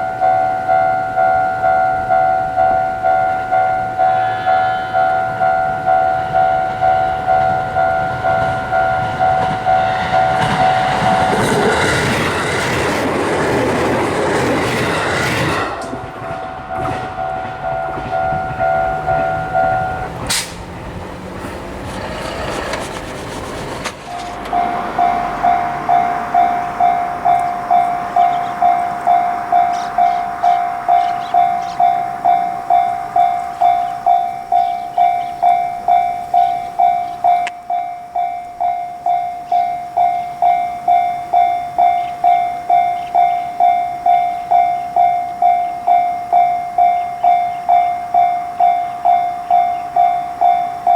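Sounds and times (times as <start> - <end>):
steady held tone: 0.0 - 12.9, 14.7 - 21.6, 23.9 - 50.9
level crossing warning bell ringing: 0.0 - 50.9
train rumbling: 0.0 - 50.9.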